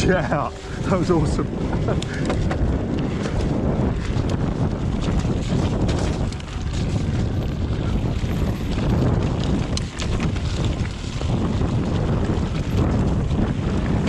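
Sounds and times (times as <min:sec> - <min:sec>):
tyre rumble on trail: 0:00.0 - 0:14.0
wind buffeting microphone: 0:00.0 - 0:14.0.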